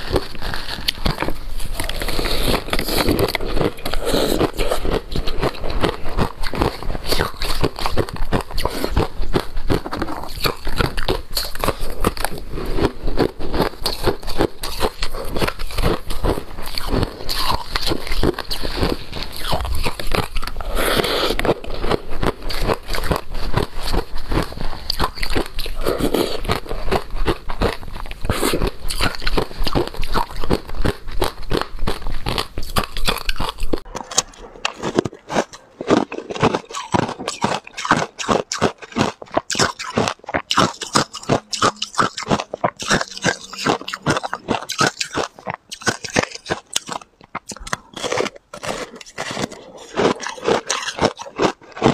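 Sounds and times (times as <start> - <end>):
ice crunching while chewed: 0.0 - 51.9.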